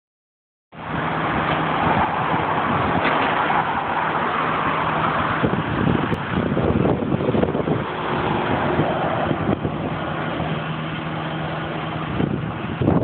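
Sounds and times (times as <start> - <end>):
jet engine roaring: 0.8 - 13.0.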